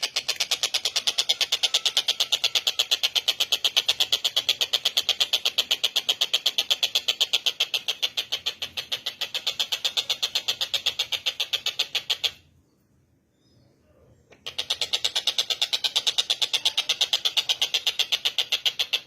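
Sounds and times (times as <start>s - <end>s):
bird chattering call: 0.0s - 12.4s, 14.3s - 19.0s.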